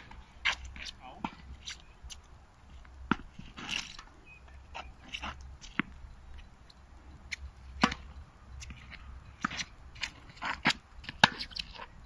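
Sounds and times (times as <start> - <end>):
tennis balls struck and bouncing: 0.0 - 6.0, 7.3 - 11.9.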